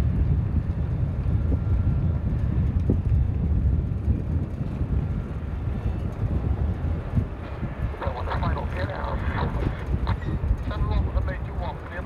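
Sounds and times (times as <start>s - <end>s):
turboprop engines droning overhead: 0.0s - 12.0s
wind buffeting microphone: 0.0s - 12.0s.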